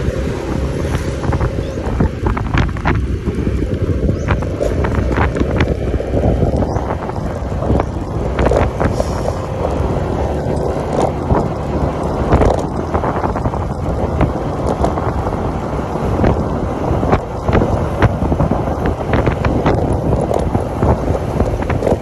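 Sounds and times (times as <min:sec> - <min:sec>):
road noise: 0:00.0 - 0:22.0
scooter engine running: 0:00.0 - 0:22.0
wind buffeting microphone: 0:00.0 - 0:22.0.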